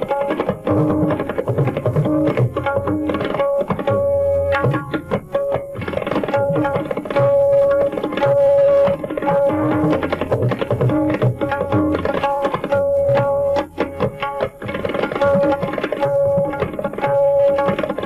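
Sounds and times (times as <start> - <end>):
tabla drumming: 0.0 - 18.0.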